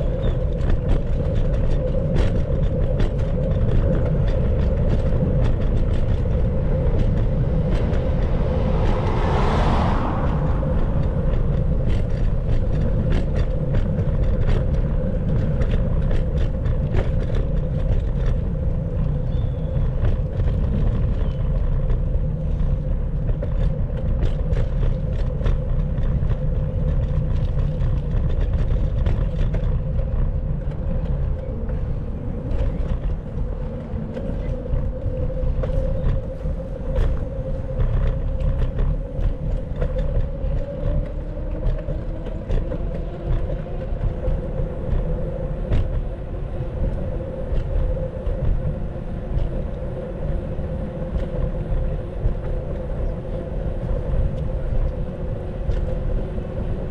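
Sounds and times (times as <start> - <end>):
small rattles and ticks: 0.0 - 9.0, 10.6 - 56.9
road noise: 0.0 - 56.9
wind on microphone: 0.0 - 56.9.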